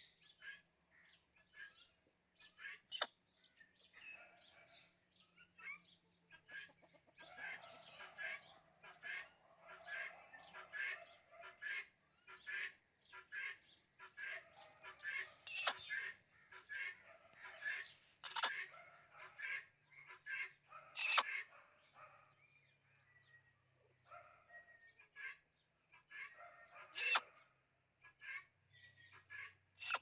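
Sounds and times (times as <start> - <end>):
birds clucking and chirping: 0.0 - 30.0.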